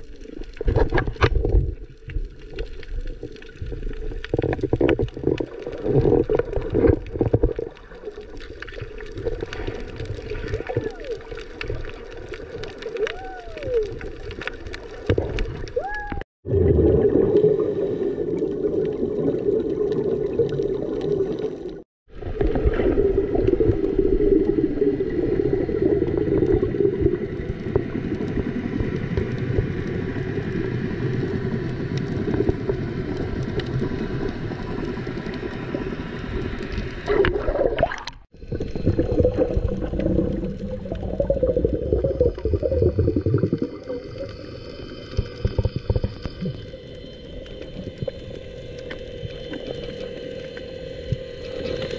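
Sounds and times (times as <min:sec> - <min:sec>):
muffled underwater rumble: 0:00.0 - 0:51.9.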